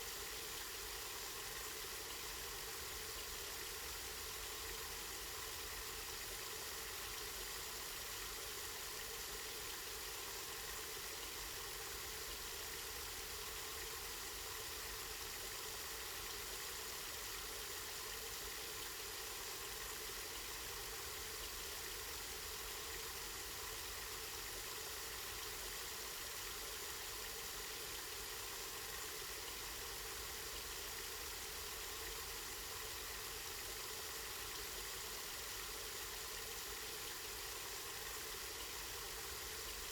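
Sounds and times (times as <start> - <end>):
spring water flowing: 0.1 - 39.9.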